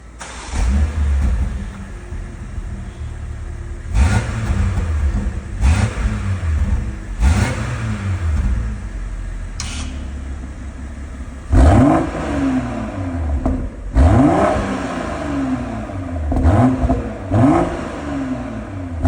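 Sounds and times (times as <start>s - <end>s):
car engine revving and idling: 0.0s - 19.0s
loud exhaust bursts: 0.2s - 10.2s, 11.4s - 19.0s.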